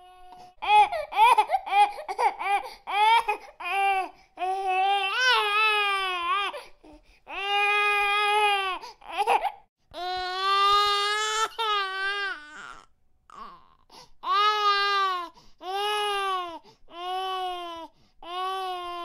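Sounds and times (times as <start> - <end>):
baby crying: 0.0 - 19.0.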